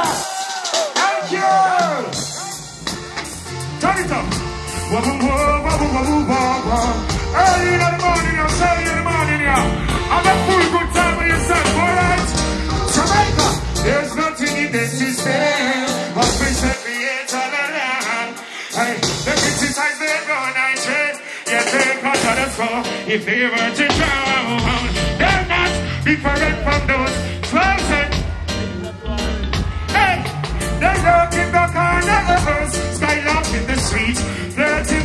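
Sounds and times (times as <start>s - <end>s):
heavy bass and drum beat: 0.0s - 35.0s
reggae band playing: 0.0s - 35.0s
person singing: 4.8s - 35.0s.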